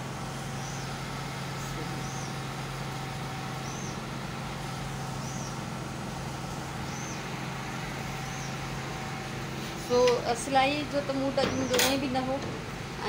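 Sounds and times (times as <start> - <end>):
electricity generators humming: 0.0 - 13.0.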